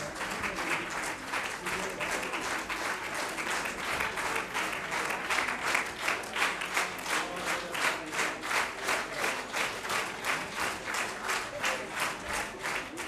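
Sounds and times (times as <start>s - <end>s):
audience applause: 0.0s - 13.0s
rhythmic clapping in unison: 0.0s - 13.0s.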